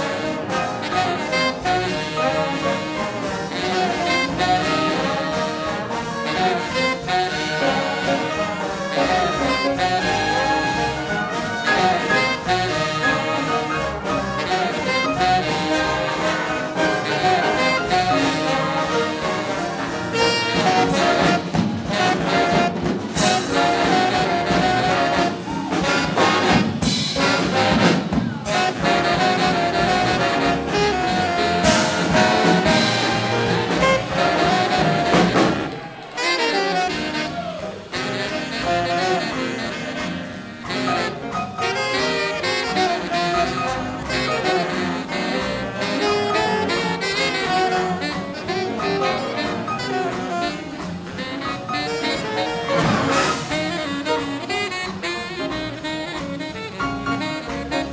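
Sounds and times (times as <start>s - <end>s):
big band playing swing jazz: 0.0s - 57.9s.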